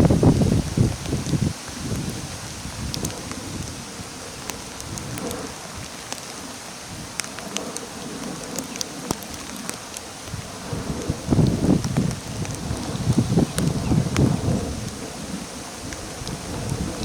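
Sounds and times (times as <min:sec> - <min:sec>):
sharp water drips: 0:00.0 - 0:17.0
steady rain: 0:00.0 - 0:17.0.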